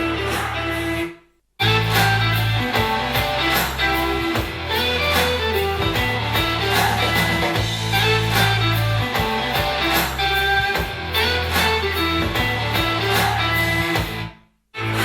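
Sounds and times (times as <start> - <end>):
guitar-led music through speaker: 0.0 - 15.0.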